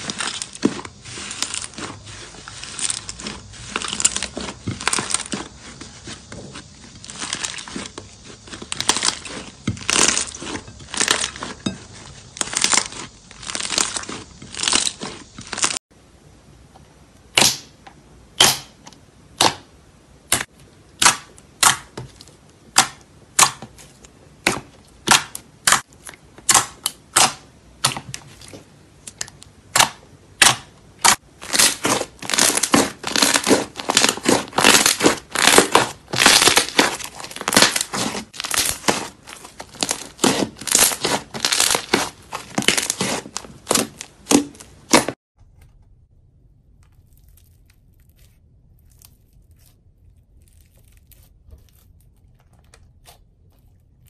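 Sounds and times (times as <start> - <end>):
slime squishing: 0.0 - 15.8, 20.3 - 45.2, 46.6 - 54.0.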